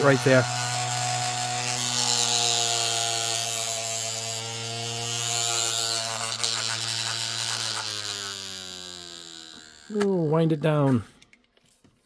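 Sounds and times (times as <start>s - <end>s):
paint shaker motor humming: 0.0s - 10.5s.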